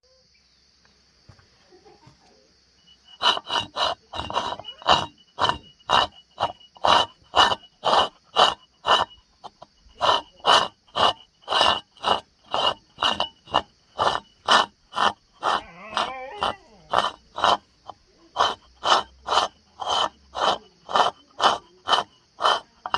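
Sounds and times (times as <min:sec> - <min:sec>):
coffee mill grinding: 0:02.9 - 0:22.9.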